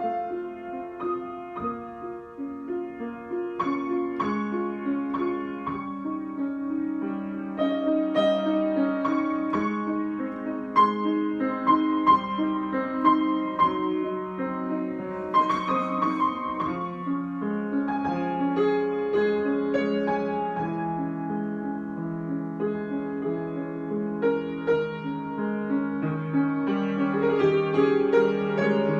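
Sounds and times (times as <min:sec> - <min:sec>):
solo piano improvisation: 0:00.0 - 0:28.9.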